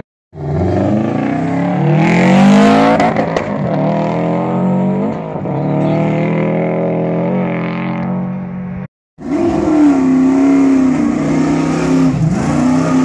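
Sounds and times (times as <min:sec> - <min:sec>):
car engine revving hard: 0:00.4 - 0:08.3, 0:09.2 - 0:13.0.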